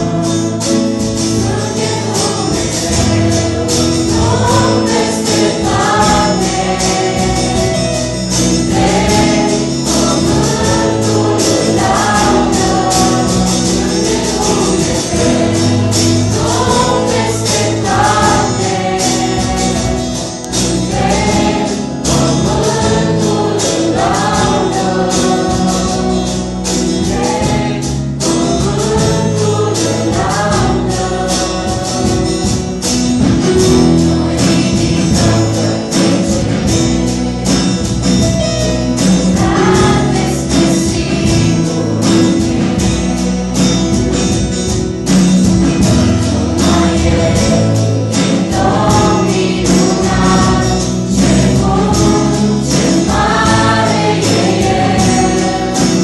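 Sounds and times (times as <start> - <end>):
acoustic guitar: 0.0 - 56.0
choir singing worship song: 0.0 - 56.0
drum kit: 0.0 - 56.0.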